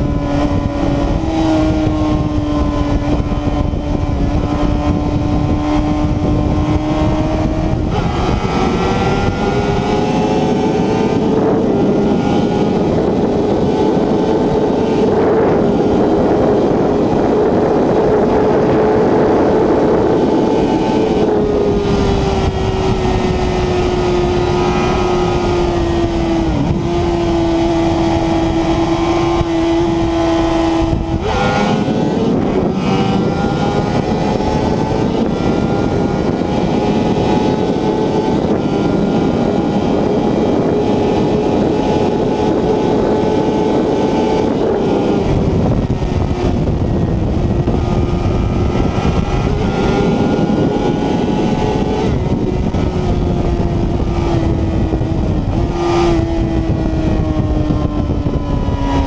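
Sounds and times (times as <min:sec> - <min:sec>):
motorcycle engine running hard: 0:00.0 - 0:59.0
wind rush: 0:00.0 - 0:59.0.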